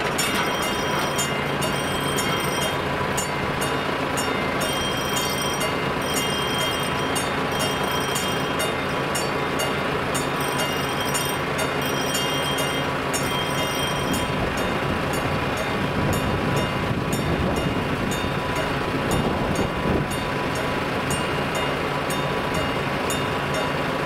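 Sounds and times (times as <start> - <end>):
level crossing warning bell: 0.0 - 24.0.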